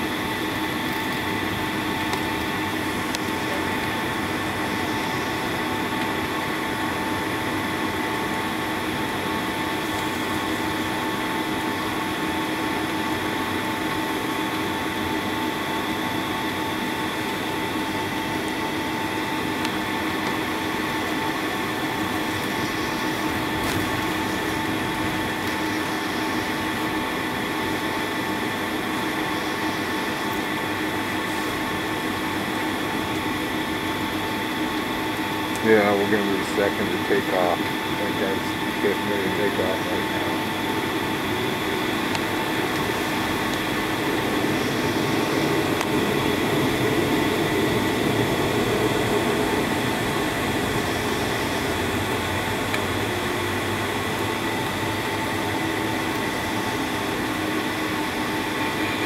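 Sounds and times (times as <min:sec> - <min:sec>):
jet engines rushing drone: 0:00.0 - 0:59.0
steady whine: 0:00.0 - 0:59.0.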